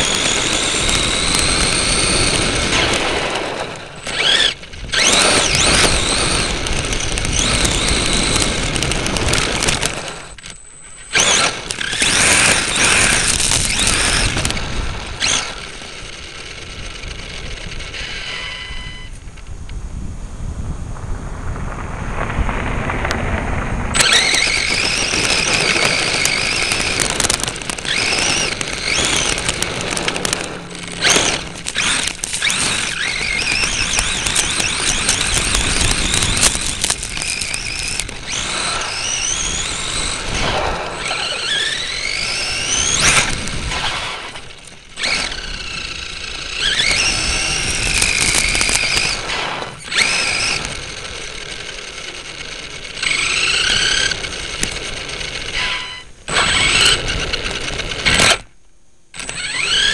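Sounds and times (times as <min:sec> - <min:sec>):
toy truck motor whining: 0:00.0 - 0:19.4, 0:24.0 - 0:59.9
tyres on gravel: 0:00.0 - 0:19.8, 0:20.8 - 0:58.6, 0:59.2 - 0:59.9.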